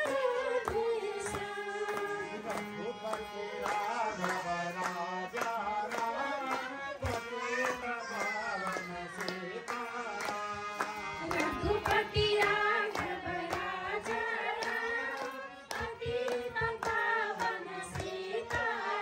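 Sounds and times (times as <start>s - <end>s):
women singing: 0.0s - 2.4s, 6.0s - 19.0s
hands clapping in time: 0.0s - 19.0s
harmonium chords: 0.0s - 19.0s.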